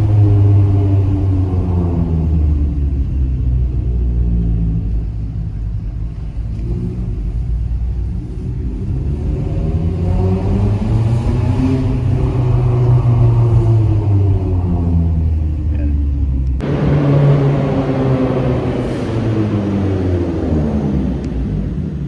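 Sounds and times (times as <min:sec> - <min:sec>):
loud car exhaust: 0:00.0 - 0:22.0.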